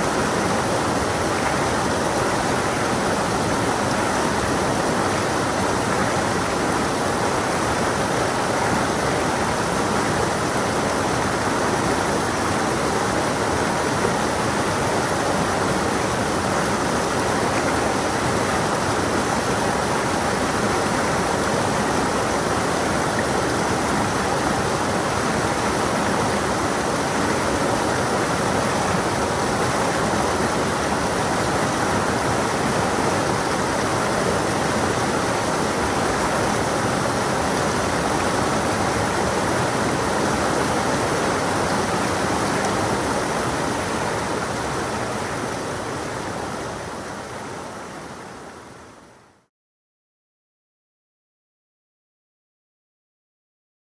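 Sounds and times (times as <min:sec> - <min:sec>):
stream babbling over rocks: 0:00.0 - 0:48.5.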